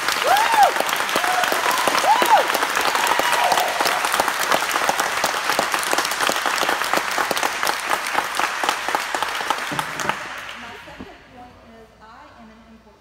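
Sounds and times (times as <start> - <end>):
crowd cheer: 0.0 - 10.6
audience applauding: 0.0 - 11.0.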